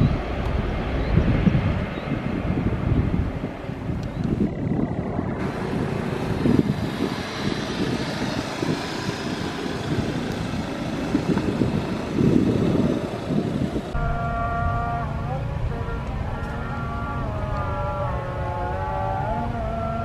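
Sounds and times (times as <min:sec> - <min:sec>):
jet engines roaring at takeoff: 0:00.0 - 0:19.8.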